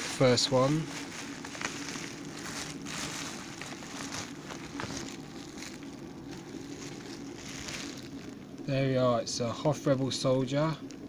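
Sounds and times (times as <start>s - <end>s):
bubble wrap crinkling: 0.0s - 9.0s.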